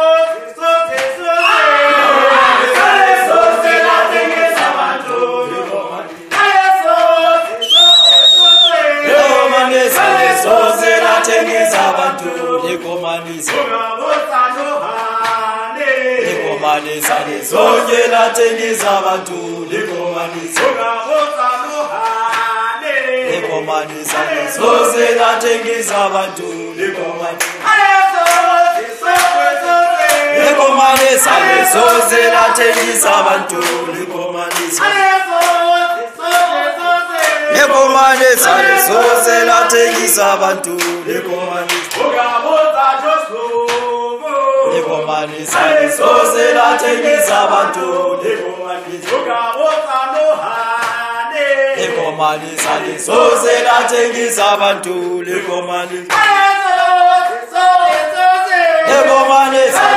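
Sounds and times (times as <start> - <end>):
crowd singing together: 0.0 - 59.9
hand claps: 0.9 - 1.3, 2.6 - 3.4, 4.1 - 9.2, 10.0 - 15.6, 16.6 - 44.0, 44.8 - 51.2, 51.8 - 59.9.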